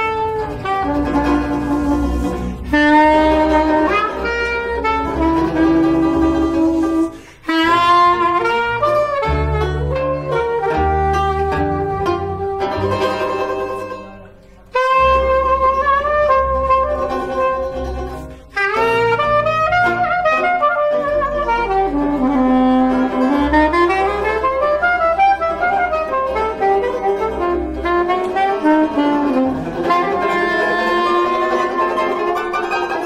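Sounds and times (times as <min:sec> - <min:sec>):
banjo: 0:00.0 - 0:33.0
plucked double bass: 0:00.0 - 0:33.0
soprano saxophone jazz melody: 0:00.0 - 0:33.0.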